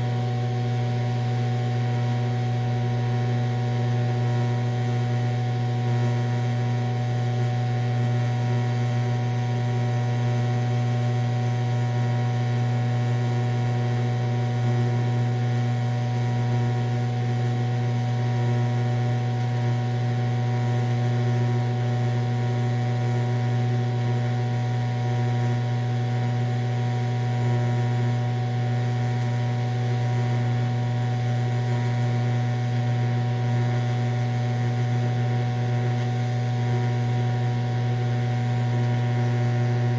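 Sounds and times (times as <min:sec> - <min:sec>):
welding machine humming: 0:00.0 - 0:39.9.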